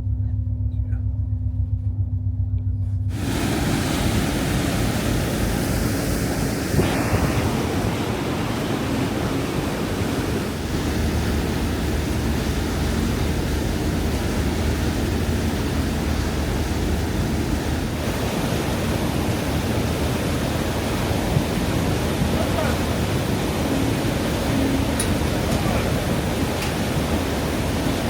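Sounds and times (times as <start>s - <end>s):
low steady hum: 0.0s - 28.0s
rushing sea water: 3.1s - 28.0s
wind buffeting microphone: 3.1s - 28.0s.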